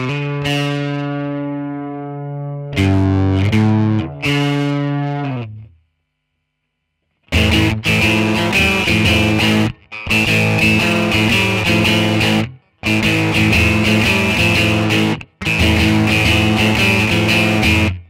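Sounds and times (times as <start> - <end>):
distorted electric guitar: 0.0 - 6.0, 7.2 - 18.0.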